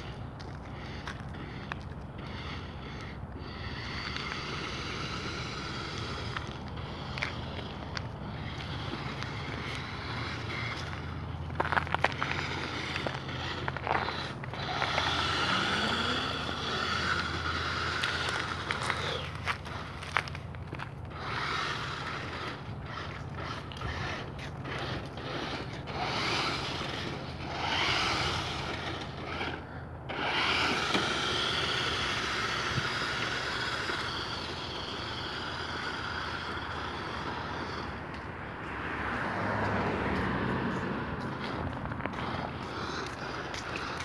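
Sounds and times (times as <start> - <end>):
toy car electric motor whining: 0.0 - 44.0
tyres scraping on pavement: 0.0 - 44.0.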